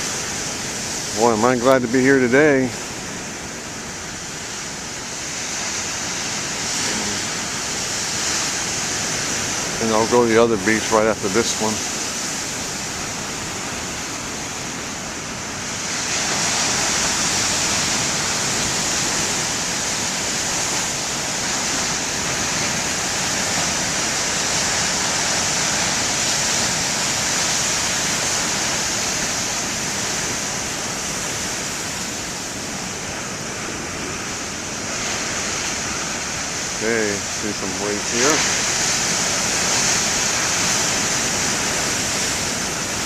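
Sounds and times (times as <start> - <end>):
heavy ocean surf: 0.0 - 43.0.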